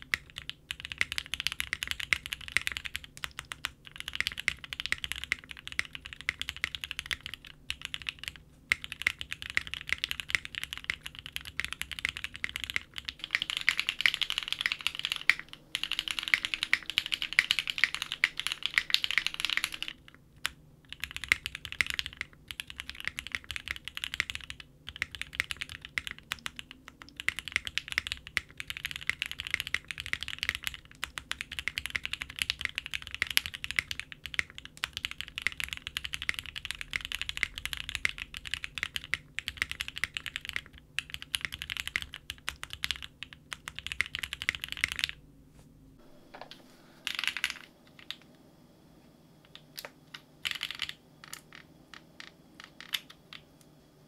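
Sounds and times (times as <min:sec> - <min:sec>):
mechanical keyboard typing: 0:00.0 - 0:45.2, 0:47.0 - 0:48.2, 0:49.5 - 0:53.5.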